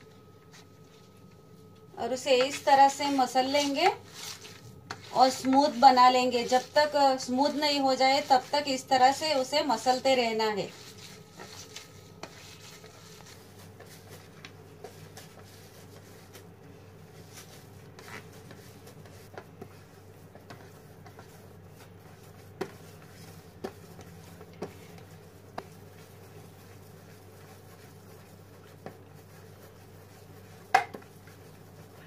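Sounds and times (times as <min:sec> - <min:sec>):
steady low hum: 0:00.0 - 0:32.0
hands kneading dough: 0:00.2 - 0:32.0.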